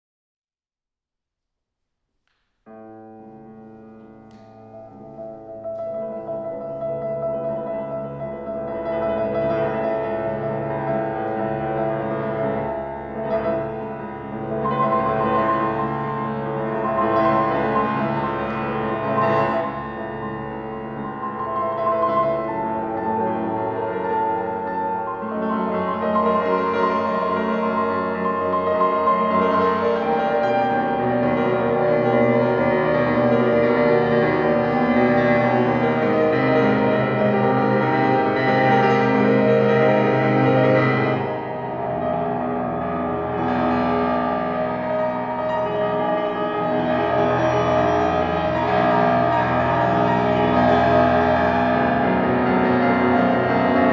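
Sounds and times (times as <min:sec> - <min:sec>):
grand piano playing: 0:02.6 - 0:53.9.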